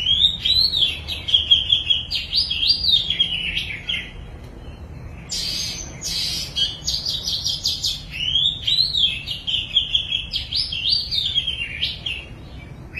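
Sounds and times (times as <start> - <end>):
baby bird chirping: 0.0 - 4.2, 5.2 - 12.4.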